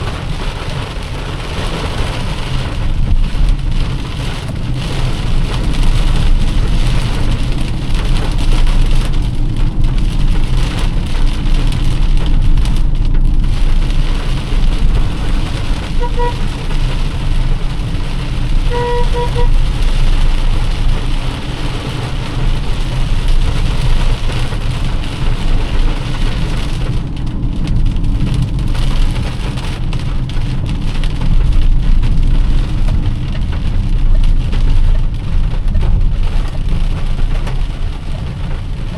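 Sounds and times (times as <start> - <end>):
engine and tyres on wet road: 0.0 - 38.9
heavy rain on a car: 0.0 - 38.9.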